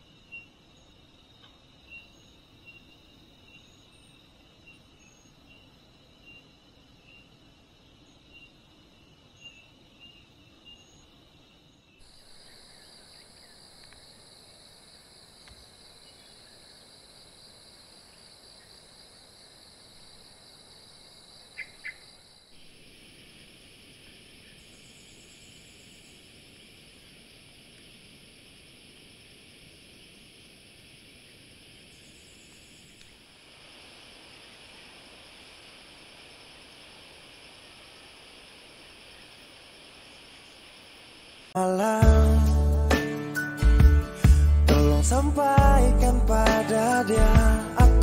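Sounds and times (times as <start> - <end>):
faint insect chorus: 0.0 - 48.0.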